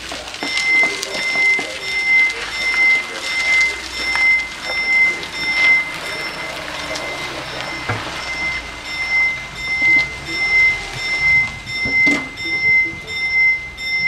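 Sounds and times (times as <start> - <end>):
level crossing warning bells: 0.0 - 14.0
car rumbling across crossing: 1.3 - 14.0.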